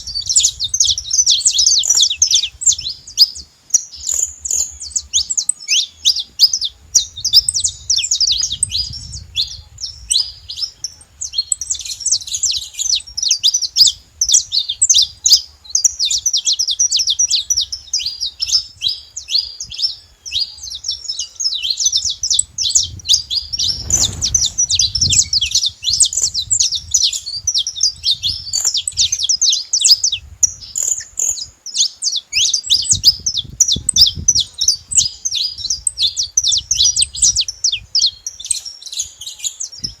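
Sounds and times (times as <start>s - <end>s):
finches chirping: 0.0s - 40.0s.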